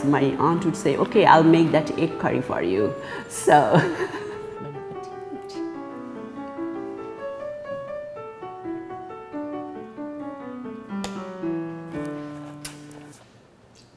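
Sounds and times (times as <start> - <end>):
gentle piano melody: 0.0 - 13.2.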